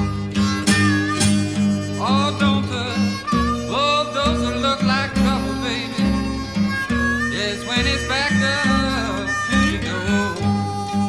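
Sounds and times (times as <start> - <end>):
plucked guitar: 0.0 - 11.0
sliding lead guitar line: 0.0 - 11.0
walking bass line: 0.0 - 11.0.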